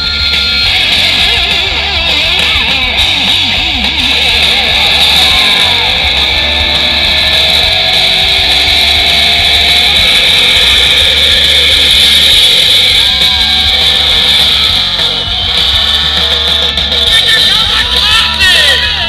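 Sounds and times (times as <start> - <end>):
electric guitars: 0.0 - 19.0
live rock music: 0.0 - 19.0.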